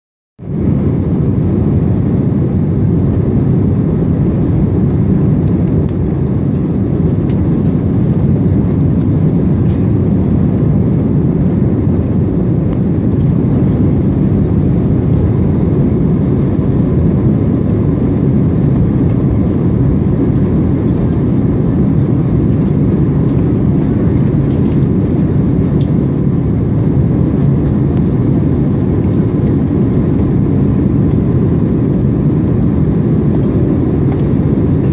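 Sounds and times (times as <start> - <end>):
airliner engine rumble: 0.4 - 34.9.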